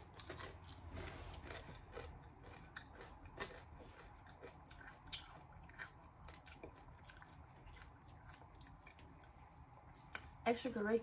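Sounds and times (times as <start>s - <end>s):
mouth chewing: 0.0s - 10.4s.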